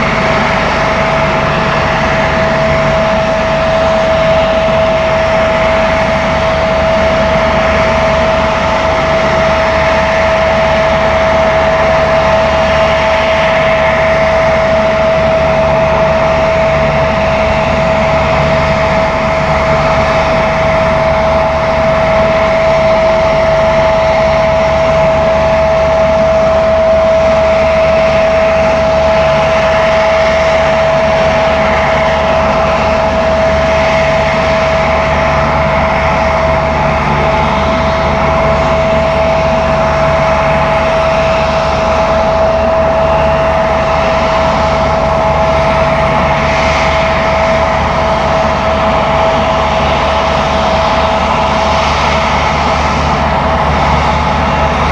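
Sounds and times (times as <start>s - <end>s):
turbine aircraft engines whining: 0.0s - 54.9s.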